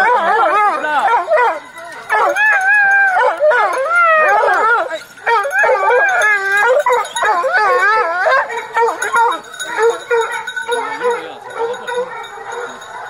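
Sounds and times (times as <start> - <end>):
hounds whining and crying: 0.0 - 13.0.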